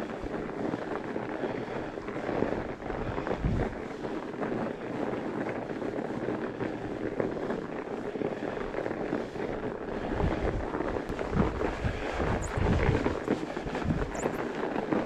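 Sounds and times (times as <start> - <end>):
bike tyres crunching on snow: 0.0 - 15.0
wind buffeting microphone: 0.0 - 15.0.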